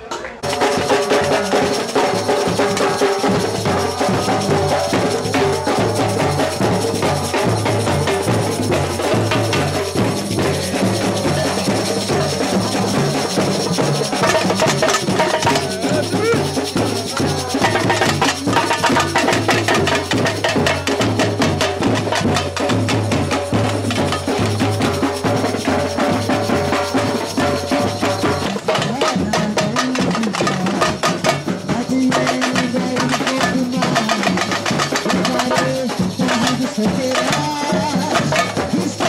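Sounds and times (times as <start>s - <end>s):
samba drum band: 0.0s - 39.0s.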